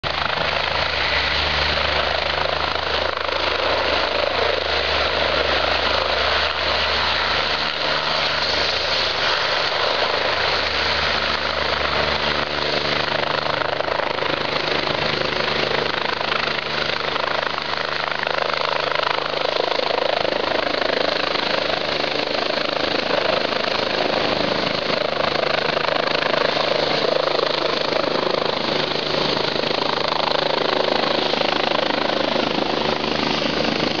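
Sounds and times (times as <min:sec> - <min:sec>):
helicopter taking off: 0:00.0 - 0:34.0.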